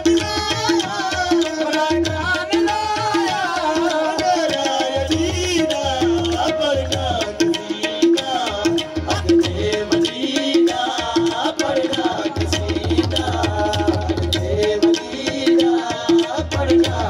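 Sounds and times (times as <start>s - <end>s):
hand drums playing: 0.0s - 17.0s
harmoniums playing: 0.0s - 17.0s.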